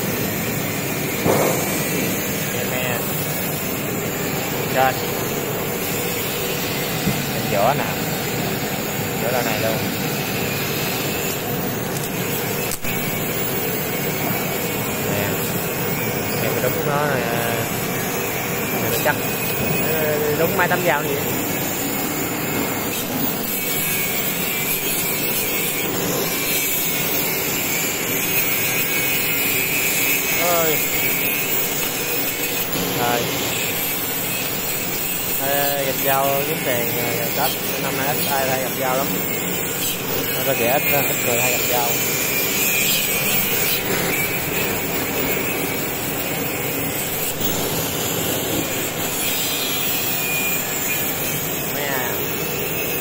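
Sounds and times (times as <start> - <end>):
angle grinder grinding steel: 0.0 - 53.0
bamboo-splitting machine running: 0.0 - 53.0.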